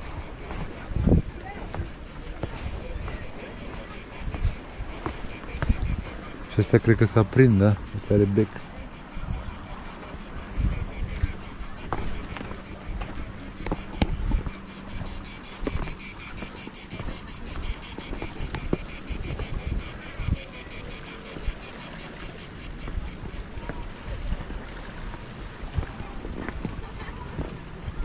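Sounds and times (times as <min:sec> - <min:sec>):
cicadas singing: 0:00.0 - 0:28.0
wind rumbling on microphone: 0:00.0 - 0:28.0.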